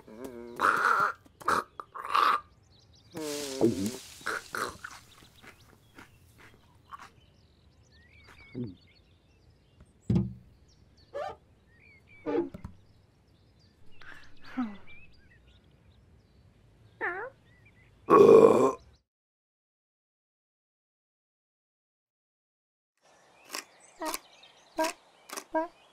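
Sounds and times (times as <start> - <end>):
faint birdsong: 0.0 - 19.1, 23.0 - 25.9.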